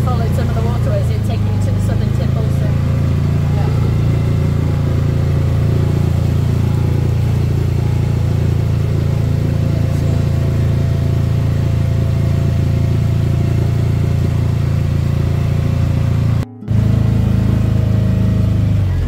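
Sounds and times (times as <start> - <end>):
motorboat engine droning: 0.0 - 19.0.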